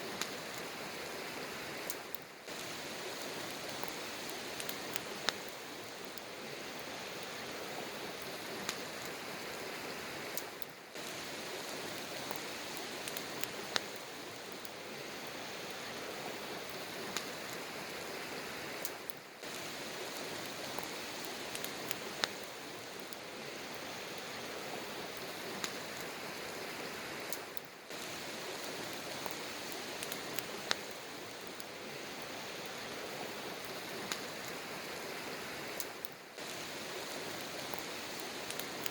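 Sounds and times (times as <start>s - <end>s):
campfire burning with pops: 0.0s - 38.9s.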